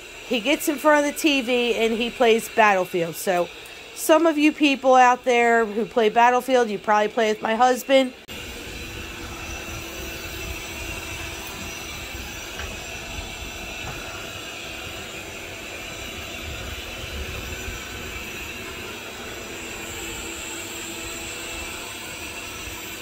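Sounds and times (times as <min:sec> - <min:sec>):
robot vacuum running: 0:00.0 - 0:23.0.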